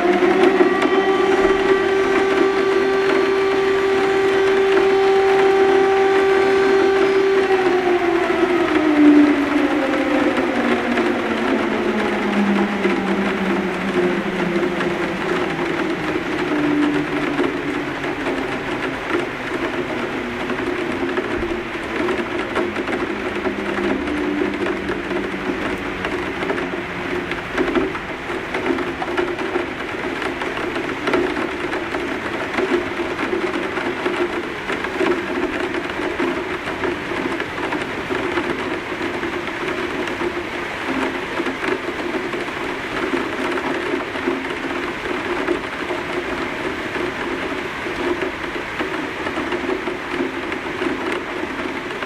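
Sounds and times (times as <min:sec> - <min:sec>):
heavy rain on window sill: 0:00.0 - 0:52.0.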